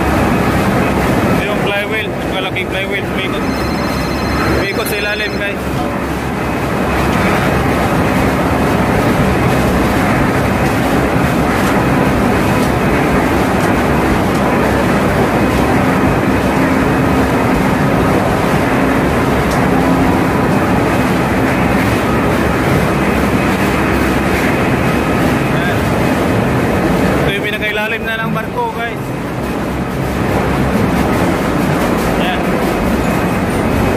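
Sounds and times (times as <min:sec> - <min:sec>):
diesel engine mechanical din: 0:00.0 - 0:33.9.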